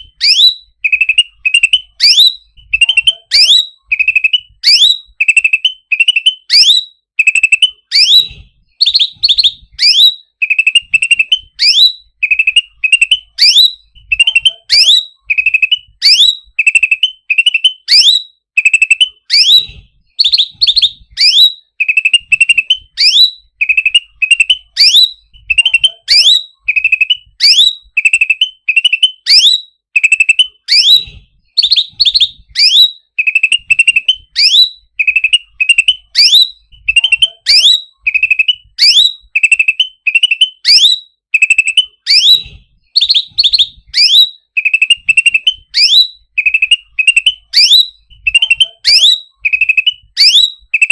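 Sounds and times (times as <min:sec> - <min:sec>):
bird whistling and trilling: 0:00.0 - 0:50.9.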